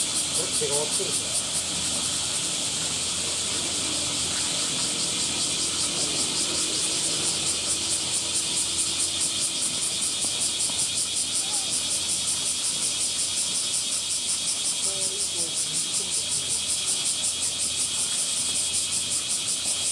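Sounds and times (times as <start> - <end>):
pulsing cicada chorus: 0.0 - 19.9.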